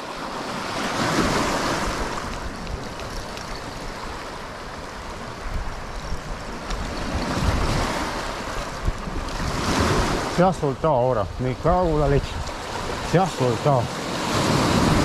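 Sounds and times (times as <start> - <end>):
sea waves washing ashore: 0.0 - 15.0
wind on microphone: 0.0 - 15.0.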